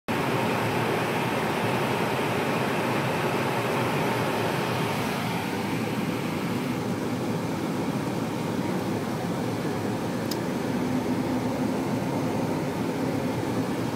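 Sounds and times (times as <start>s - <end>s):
bus road and engine noise: 0.1s - 13.9s.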